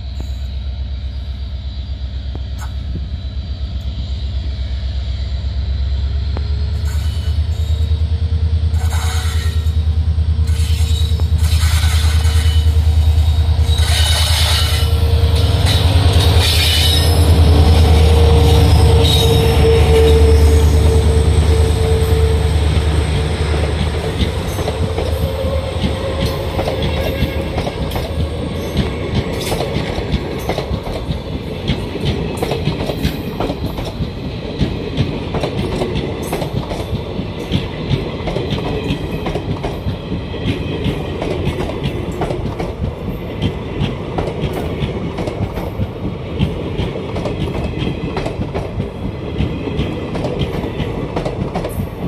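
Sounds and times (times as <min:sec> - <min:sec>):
diesel locomotive engine throbbing: 0:00.0 - 0:52.0
train wheels clattering on rails: 0:06.3 - 0:52.0.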